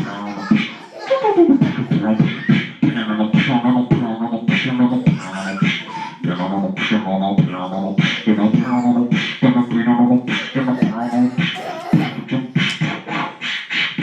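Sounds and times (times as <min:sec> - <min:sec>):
man beatboxing: 0:00.0 - 0:14.0.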